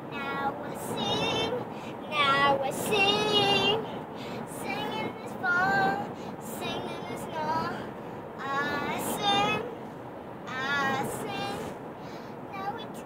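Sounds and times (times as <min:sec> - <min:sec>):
car cabin road noise: 0:00.0 - 0:13.0
girl singing: 0:00.1 - 0:03.8, 0:04.5 - 0:09.7, 0:10.5 - 0:11.8, 0:12.5 - 0:13.0.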